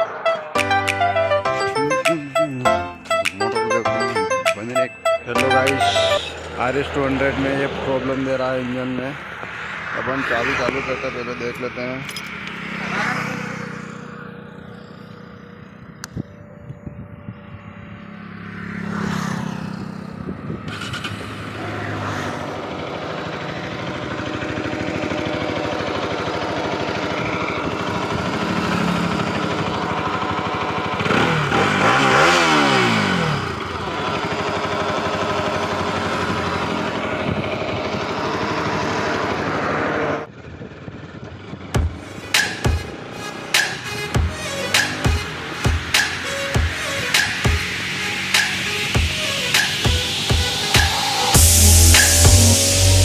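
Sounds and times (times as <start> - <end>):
motorcycle engine revving: 6.4 - 53.0.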